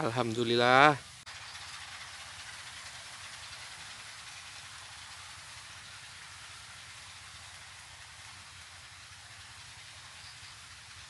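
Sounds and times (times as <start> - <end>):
even hiss: 0.0 - 11.0
low fluttering rumble: 1.0 - 11.0.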